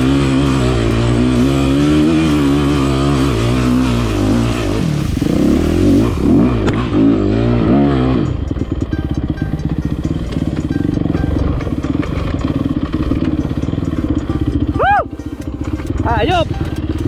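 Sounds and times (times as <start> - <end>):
dirt bike engine idling: 0.0 - 17.0
dirt bike engine revving: 0.0 - 17.0.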